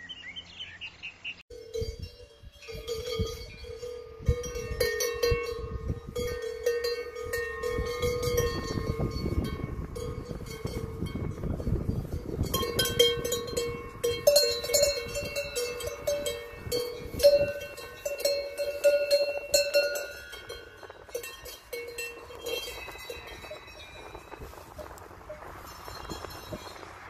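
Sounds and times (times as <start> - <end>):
cowbells clanking: 1.5 - 27.0.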